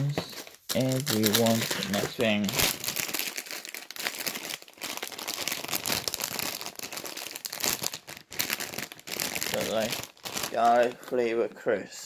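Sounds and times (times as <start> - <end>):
crisp packet crinkling: 0.1 - 11.4.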